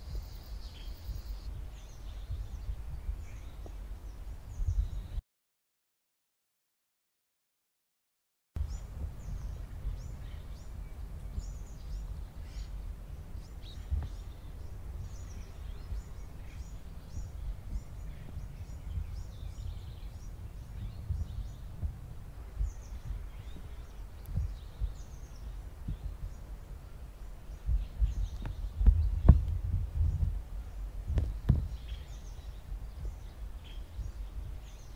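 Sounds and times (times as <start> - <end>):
small birds chirping: 0.0 - 5.2, 8.6 - 34.9
wind rumbling on microphone: 0.0 - 5.2, 8.6 - 34.9.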